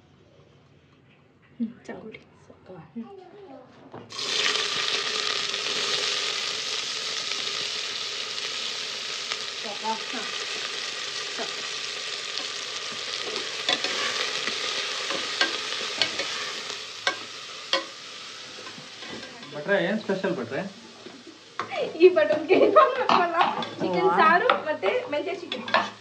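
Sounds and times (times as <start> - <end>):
onions sizzling in hot oil: 4.1 - 26.0.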